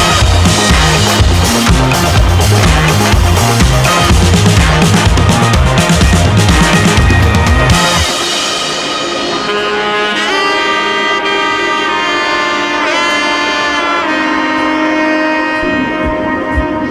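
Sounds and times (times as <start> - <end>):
wind instrument melody: 0.0 - 16.9.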